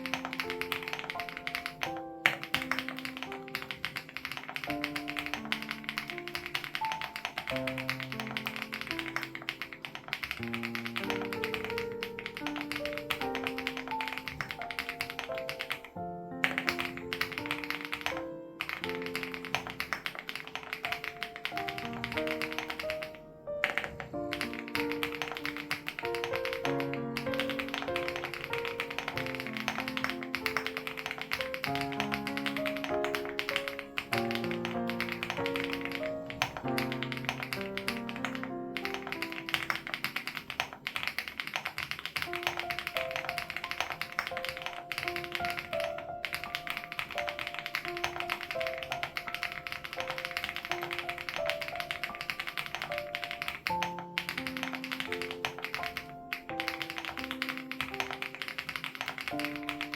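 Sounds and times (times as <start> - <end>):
gentle background music: 0.0 - 59.9
mechanical keyboard typing: 0.0 - 59.9.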